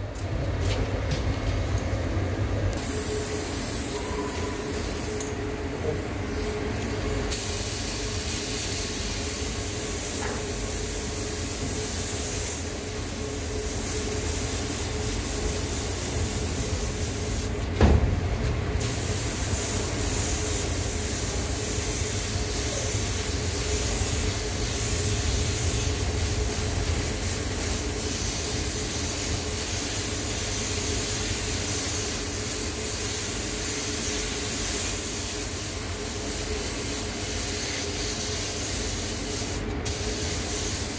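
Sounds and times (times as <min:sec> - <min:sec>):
ventilation hum: 0:00.0 - 0:40.9
spray gun hissing: 0:02.8 - 0:05.2, 0:06.4 - 0:18.0, 0:18.8 - 0:40.9.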